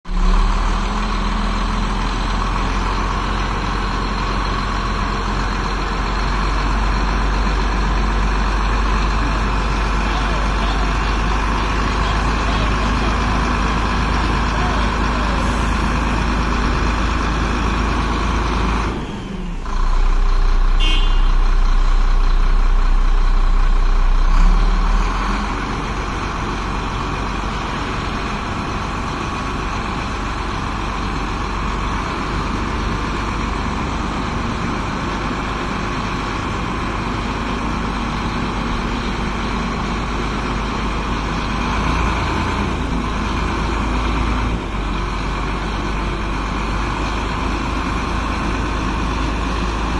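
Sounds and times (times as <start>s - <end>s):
truck diesel engine running: 0.1s - 49.9s.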